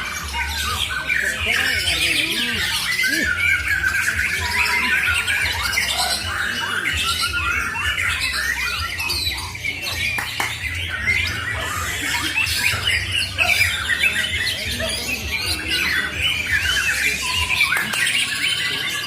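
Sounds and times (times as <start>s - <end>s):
caged songbirds singing: 0.0s - 19.0s.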